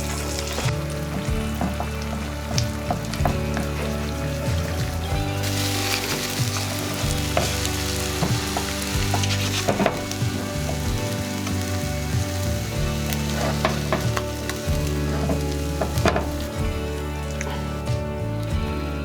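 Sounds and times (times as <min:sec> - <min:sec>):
eggs sizzling in a pan: 0:00.0 - 0:19.0.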